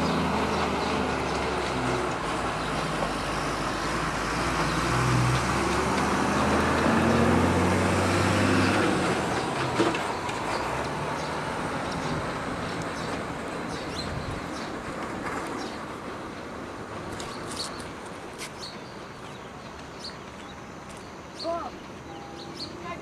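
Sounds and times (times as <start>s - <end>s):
diesel locomotive engine rumbling: 0.0s - 23.0s
train rolling noise: 0.0s - 23.0s.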